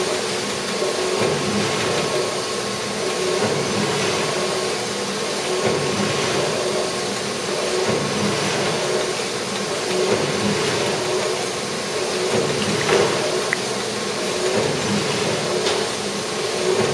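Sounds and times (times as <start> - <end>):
printing press whirring: 0.0 - 16.9.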